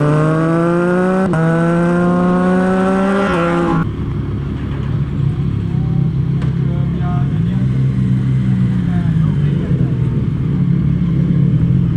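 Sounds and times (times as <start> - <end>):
motorcycle engine accelerating: 0.0 - 11.9.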